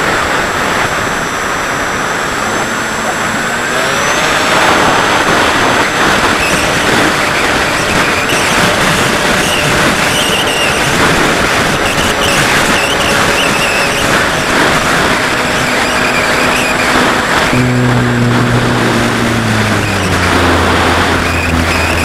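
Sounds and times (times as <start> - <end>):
electric motor and propeller whine: 0.0 - 22.0
wind rushing over microphone: 0.0 - 22.0.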